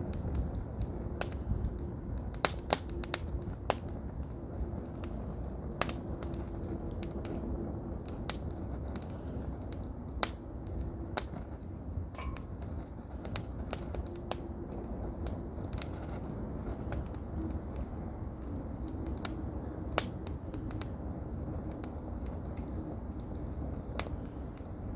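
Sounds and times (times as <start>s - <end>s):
firewood crackling and popping: 0.0s - 24.9s
low rumble of wind: 0.0s - 24.9s.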